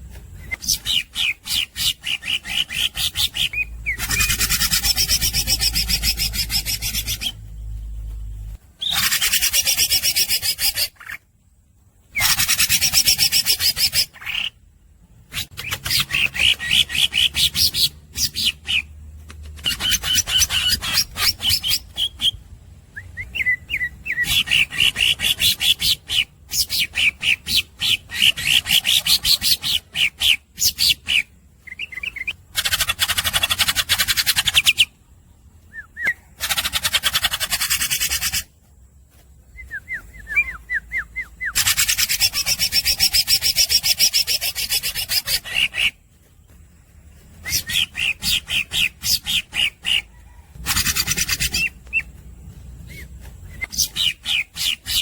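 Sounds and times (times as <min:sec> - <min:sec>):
bird singing rapid chatter and trills: 0:00.0 - 0:55.0.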